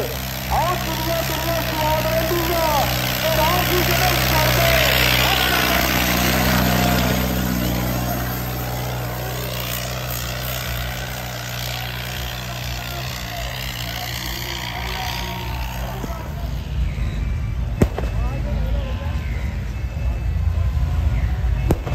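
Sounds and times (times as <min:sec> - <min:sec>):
tractor diesel engine under load: 0:00.0 - 0:21.9.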